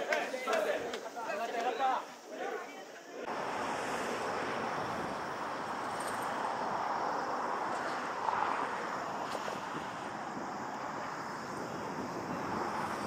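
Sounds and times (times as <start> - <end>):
wind: 0.0 - 13.0
distant traffic hiss: 0.8 - 13.0.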